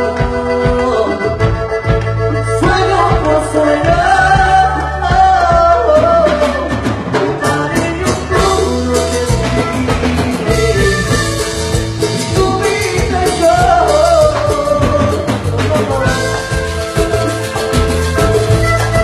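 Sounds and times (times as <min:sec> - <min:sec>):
live band playing: 0:00.0 - 0:19.0
person singing: 0:00.0 - 0:19.0.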